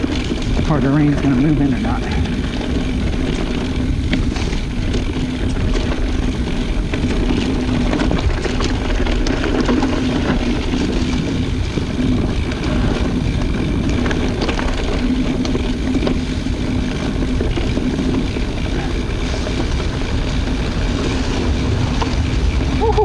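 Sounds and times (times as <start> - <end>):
bike clicks and rattles: 0.0 - 23.0
bike tyres crackling through leaves: 0.0 - 23.0
wind rush on microphone: 0.0 - 23.0.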